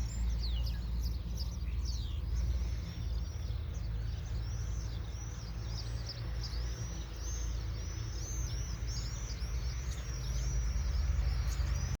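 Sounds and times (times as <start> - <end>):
flock of small birds chirping: 0.0 - 12.0.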